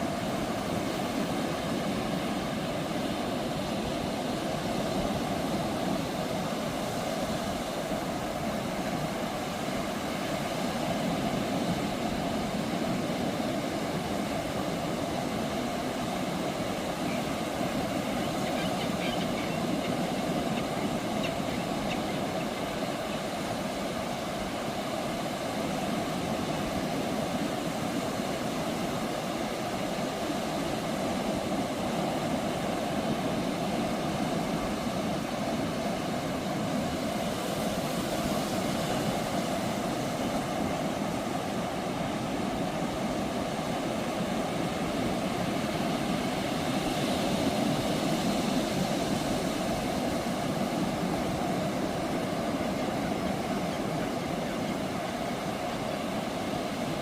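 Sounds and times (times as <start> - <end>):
ocean surf on beach: 0.0 - 57.0.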